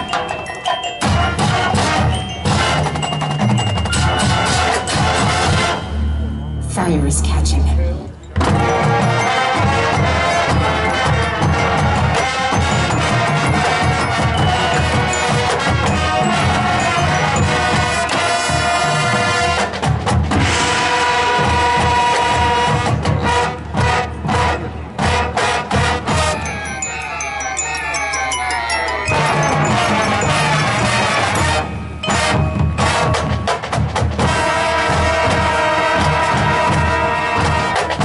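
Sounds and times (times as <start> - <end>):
marching band playing: 0.0 - 38.0.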